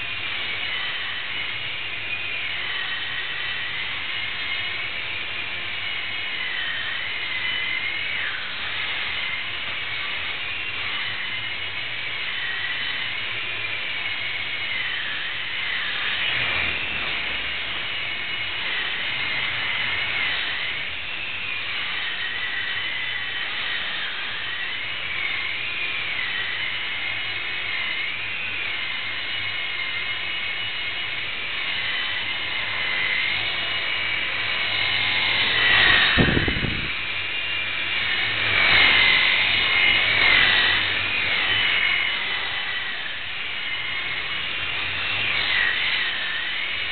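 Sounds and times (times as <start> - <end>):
rc helicopter motors whining: 0.0 - 46.9.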